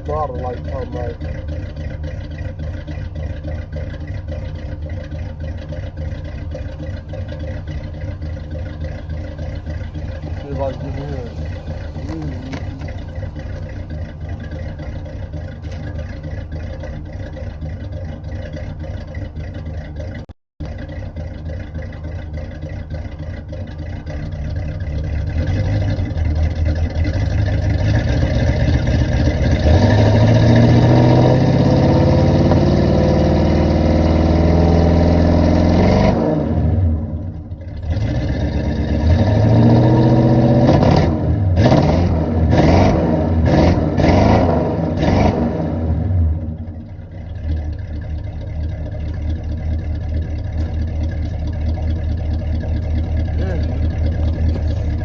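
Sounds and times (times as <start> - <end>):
car engine running rough and revving: 0.0 - 55.0.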